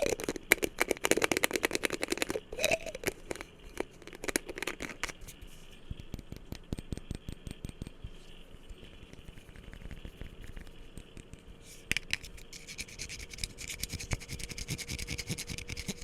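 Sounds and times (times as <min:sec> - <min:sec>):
fingers tapping an object: 0:00.0 - 0:05.2, 0:05.9 - 0:16.0.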